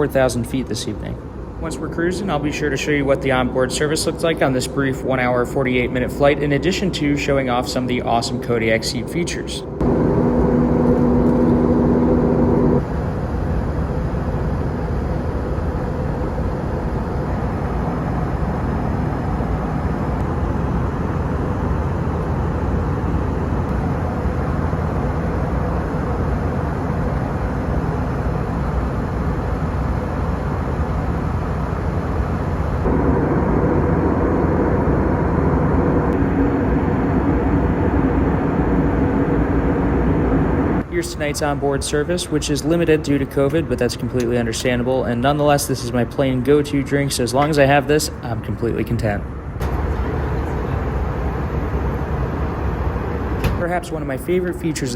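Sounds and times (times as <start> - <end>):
airplane cabin engine roar: 0.0 - 54.9
steady humming tones: 0.0 - 54.9.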